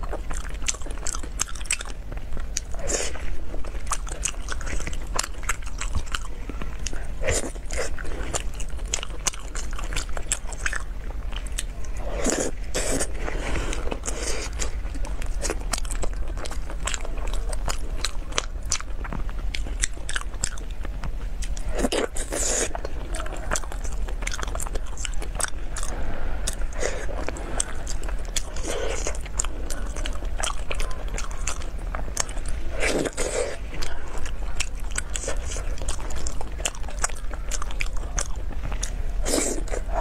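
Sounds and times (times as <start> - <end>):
close chewing and biting: 0.0 - 40.0
low steady hum: 0.0 - 40.0.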